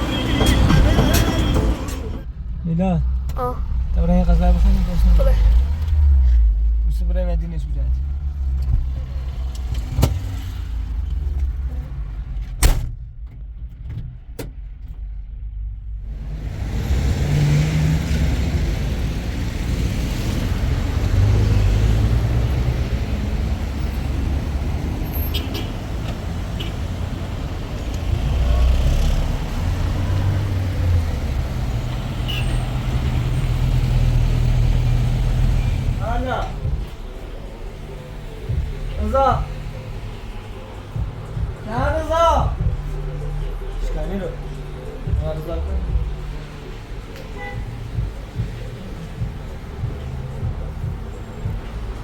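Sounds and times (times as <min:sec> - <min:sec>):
car engine running: 0:00.0 - 0:52.0
road noise: 0:00.0 - 0:52.0.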